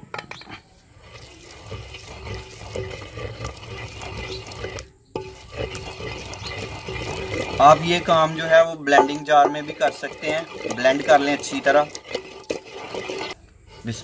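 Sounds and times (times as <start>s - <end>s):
wet paste being ground by hand: 0.6s - 14.0s.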